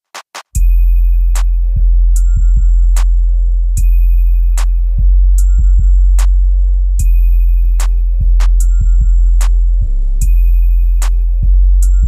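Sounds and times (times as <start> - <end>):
electronic music with heavy bass: 0.6 - 12.0.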